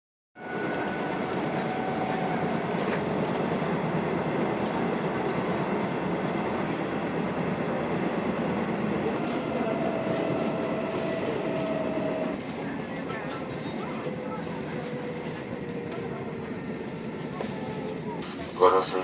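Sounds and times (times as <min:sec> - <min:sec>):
train wheels rumbling: 0:00.4 - 0:19.0.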